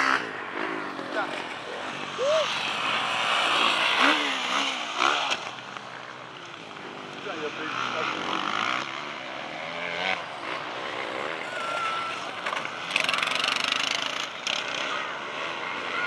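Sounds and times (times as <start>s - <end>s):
dirt bike engines revving: 0.0s - 16.0s
dirt bike passing close: 0.0s - 16.0s.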